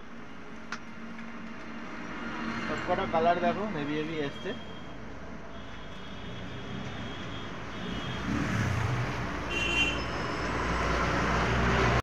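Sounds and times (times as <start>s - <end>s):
road traffic engine rumble: 0.0s - 12.0s.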